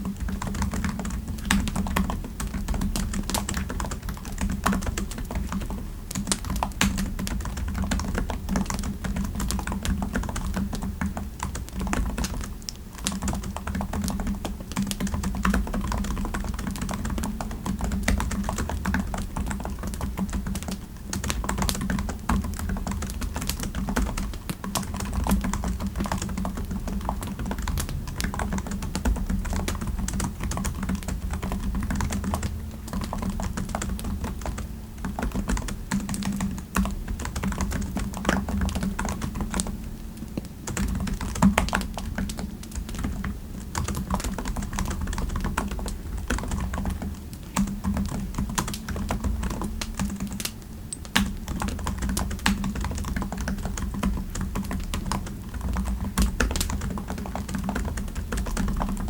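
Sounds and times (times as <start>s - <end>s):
typing on computer keyboard: 0.0s - 39.9s, 40.7s - 59.0s
steady low hum: 0.0s - 59.0s.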